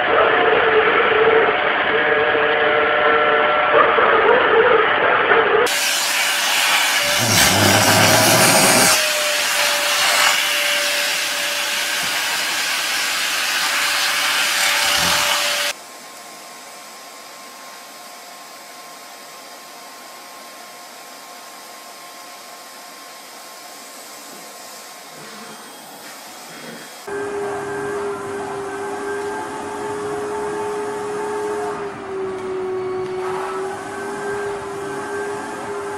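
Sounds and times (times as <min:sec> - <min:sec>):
vacuum cleaner running: 0:05.6 - 0:35.9.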